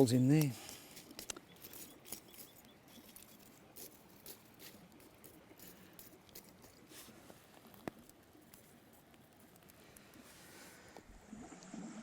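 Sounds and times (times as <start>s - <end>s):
campfire coals crackling: 0.0s - 11.1s.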